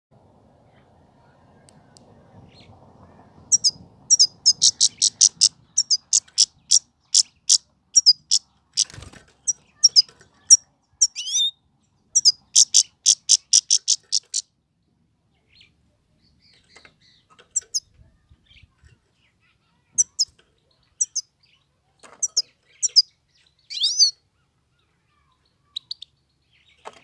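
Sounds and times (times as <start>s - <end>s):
goldfinch twittering song: 2.5s - 14.5s, 15.4s - 27.0s.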